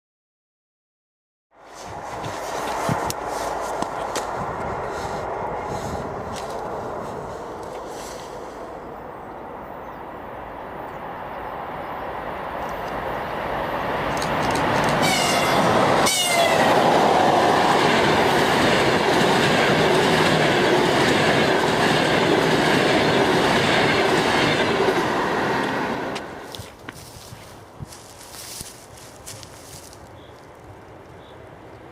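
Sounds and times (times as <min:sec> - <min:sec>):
train wheel and rail noise: 0:01.6 - 0:31.9.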